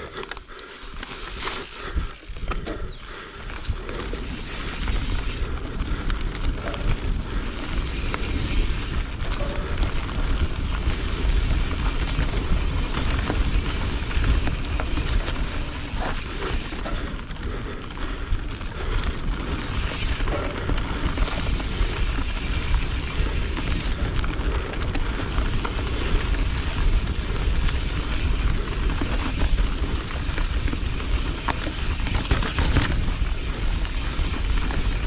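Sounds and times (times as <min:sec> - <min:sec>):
bike clicks and rattles: 0:00.0 - 0:35.0
tyres rolling over dirt: 0:00.0 - 0:35.0
wind buffeting microphone: 0:01.6 - 0:35.0.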